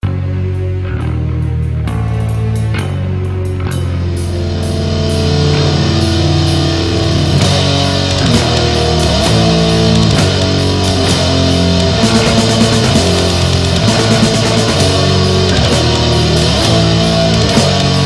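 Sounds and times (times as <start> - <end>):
distorted electric guitars: 0.0 - 18.0.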